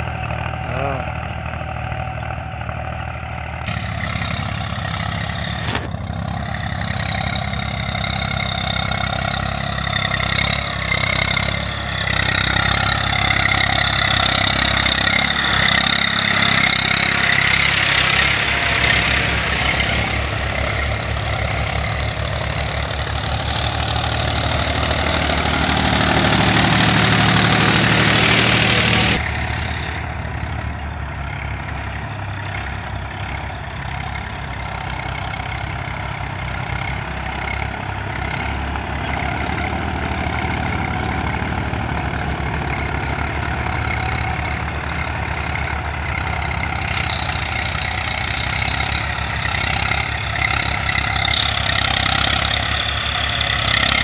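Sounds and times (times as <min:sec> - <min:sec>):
tractor engines under load: 0:00.0 - 0:54.0.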